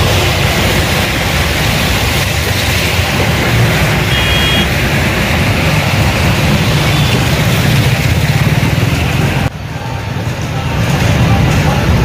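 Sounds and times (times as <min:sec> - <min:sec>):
heavy rain: 0:00.0 - 0:12.0
motorbike engines: 0:00.0 - 0:12.0.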